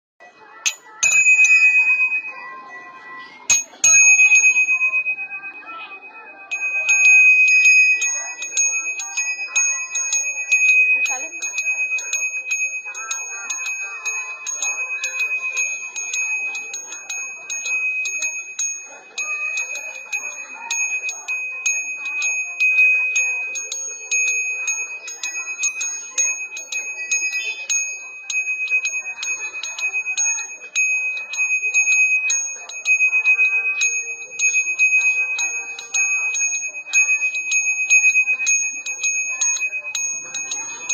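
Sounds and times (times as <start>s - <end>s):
hand bell ringing: 0.6s - 2.7s, 3.5s - 40.9s.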